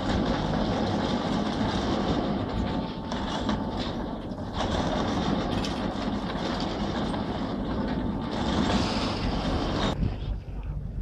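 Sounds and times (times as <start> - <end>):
chairlift machinery running: 0.0 - 11.0.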